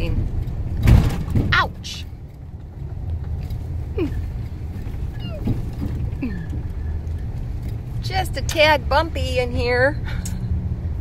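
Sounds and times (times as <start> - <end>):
truck engine and tyre rumble: 0.0 - 11.0.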